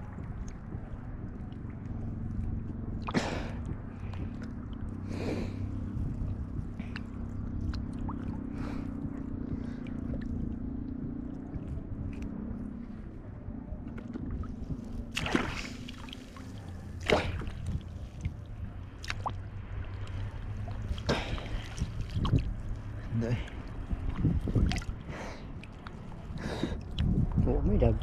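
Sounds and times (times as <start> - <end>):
seawater sloshing and splashing: 0.0 - 12.2, 13.8 - 27.4
low hum: 0.0 - 28.0.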